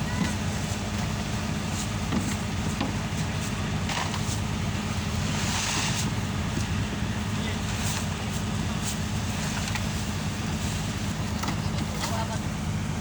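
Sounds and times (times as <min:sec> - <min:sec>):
boat engine droning: 0:00.0 - 0:13.0
rushing hissing noises: 0:00.5 - 0:11.1.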